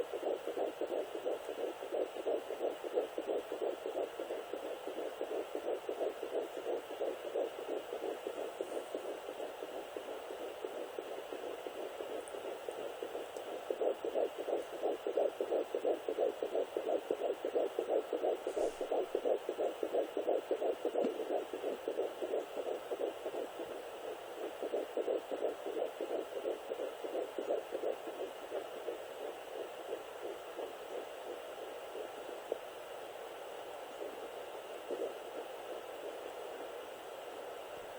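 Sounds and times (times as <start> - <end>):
fetal heartbeat on doppler speaker: 0.0 - 37.9.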